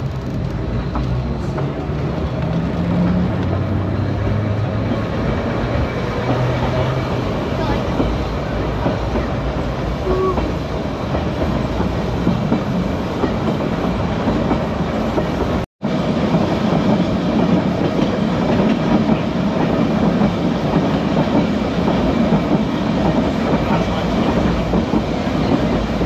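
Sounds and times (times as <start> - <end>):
tram rumbling: 0.0 - 26.0.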